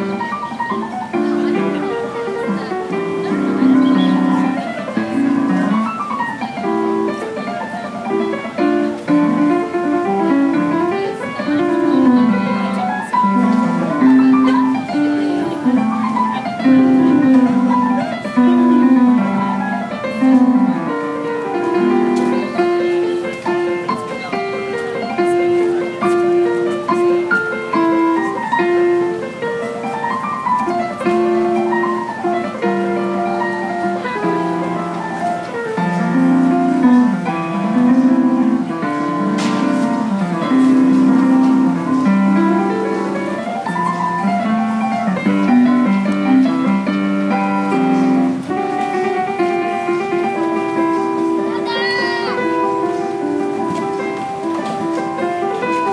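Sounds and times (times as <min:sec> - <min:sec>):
digital piano melody: 0:00.0 - 0:55.9.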